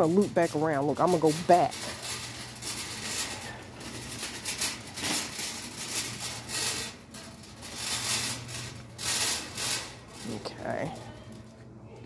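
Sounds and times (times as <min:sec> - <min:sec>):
shopping cart rolling on tiles: 0:00.0 - 0:11.7.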